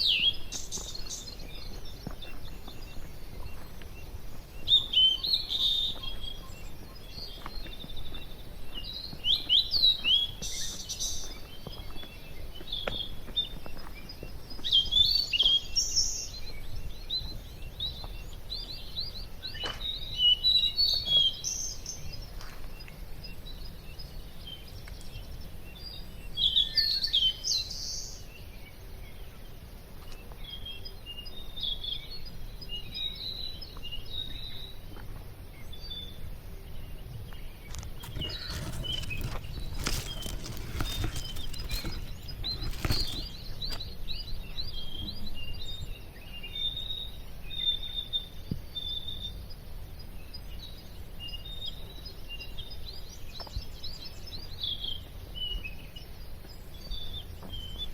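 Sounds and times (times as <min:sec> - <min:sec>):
birds chirping and trilling: 0:00.0 - 0:34.8, 0:35.5 - 0:57.9.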